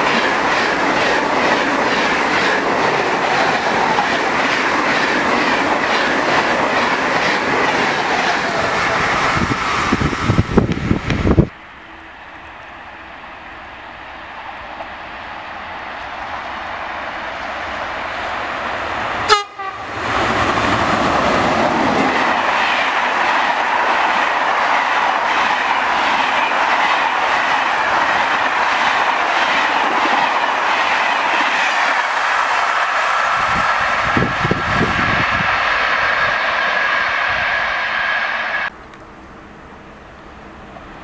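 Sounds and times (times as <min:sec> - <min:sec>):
train rushing on track: 0:00.0 - 0:41.0.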